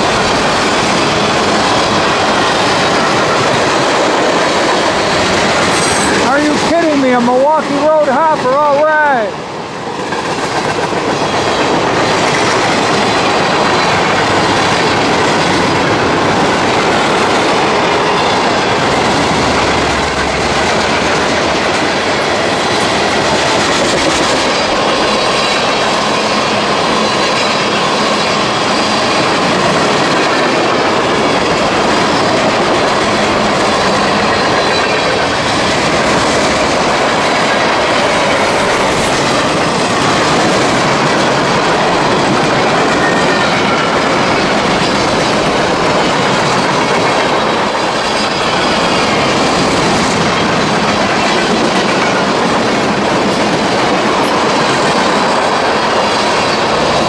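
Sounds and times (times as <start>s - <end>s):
train wheels clattering over rail joints: 9.7s - 57.0s.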